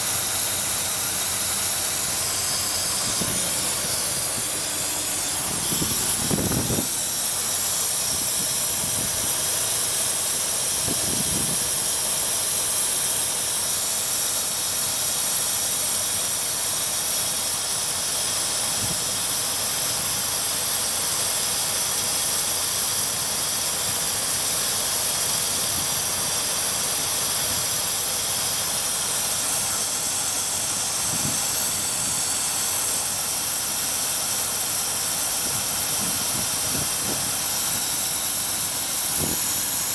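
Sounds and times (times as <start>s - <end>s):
engine idling with hiss: 0.0s - 39.9s.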